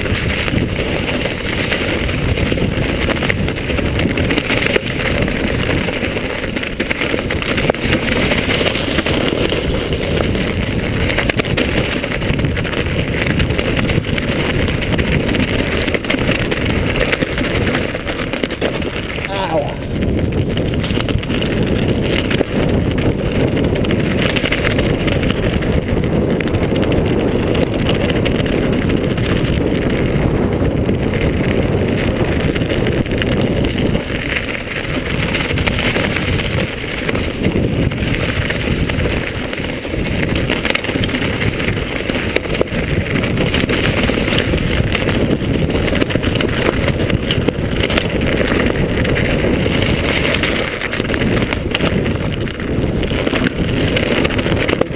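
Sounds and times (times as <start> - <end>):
bike tyres rumbling on dirt: 0.0 - 54.9
wind on microphone: 0.0 - 54.9.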